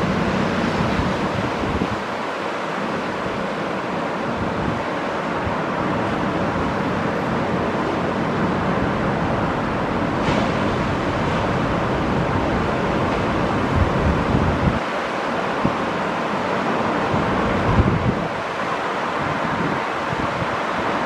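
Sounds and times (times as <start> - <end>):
ocean surf breaking on beach: 0.0 - 21.0
wind: 0.0 - 21.0.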